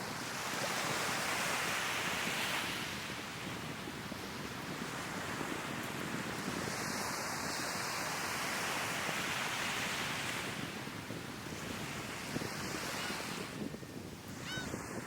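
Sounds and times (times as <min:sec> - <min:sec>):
sea waves washing onto shore: 0:00.0 - 0:15.0
wind buffeting microphone: 0:02.1 - 0:15.0.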